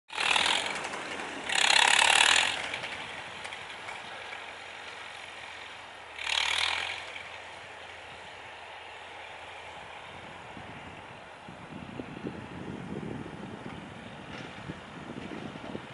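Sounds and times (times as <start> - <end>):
tractor engine drone: 0.1 - 15.9.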